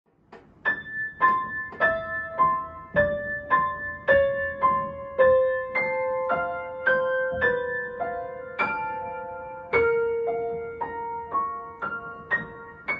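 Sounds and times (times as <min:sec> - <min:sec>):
slow piano melody: 0:00.1 - 0:12.9.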